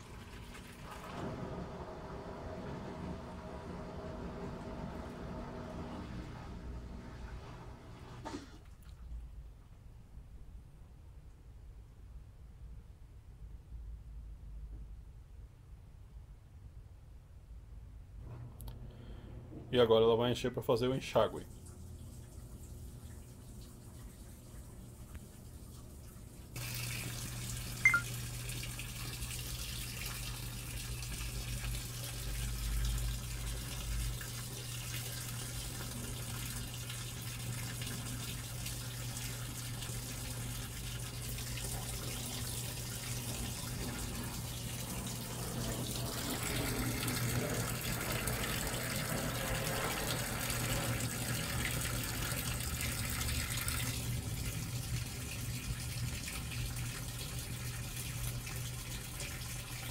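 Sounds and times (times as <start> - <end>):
water pouring into washing machine: 0.0 - 9.2, 21.1 - 59.9.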